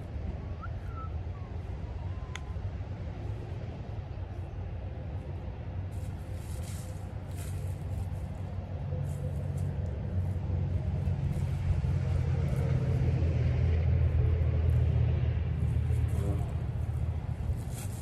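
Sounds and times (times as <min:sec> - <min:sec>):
passing vehicle engine rumble: 0:00.0 - 0:18.0.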